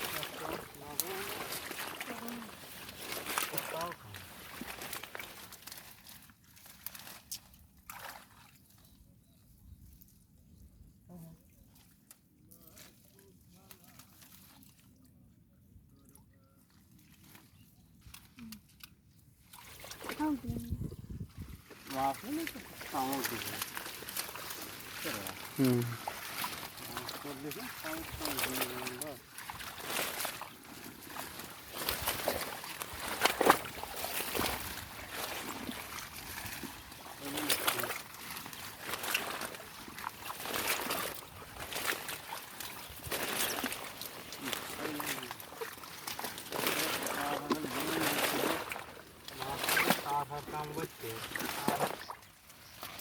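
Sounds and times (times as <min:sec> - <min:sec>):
water sloshing and splashing: 0:00.0 - 0:53.0.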